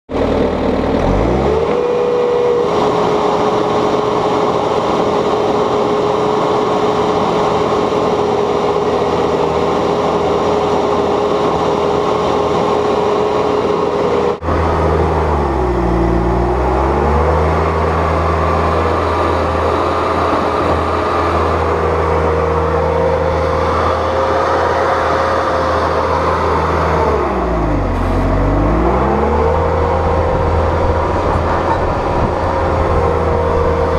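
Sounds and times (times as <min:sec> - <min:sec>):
diesel engine revving: 0:00.1 - 0:33.9.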